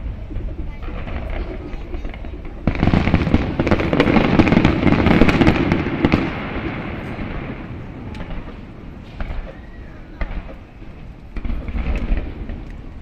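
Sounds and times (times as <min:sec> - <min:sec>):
fireworks bursting: 0:00.0 - 0:13.0
fireworks crackle: 0:00.0 - 0:13.0.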